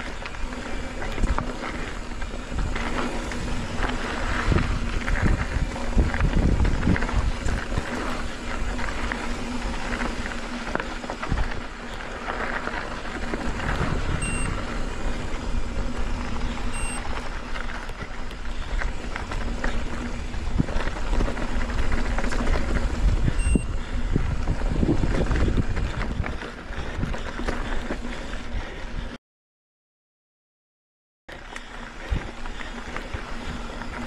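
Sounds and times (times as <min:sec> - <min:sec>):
bike rattling over bumps: 0:00.0 - 0:29.2, 0:31.3 - 0:34.0
wind and tyre noise: 0:00.0 - 0:29.2, 0:31.3 - 0:34.0.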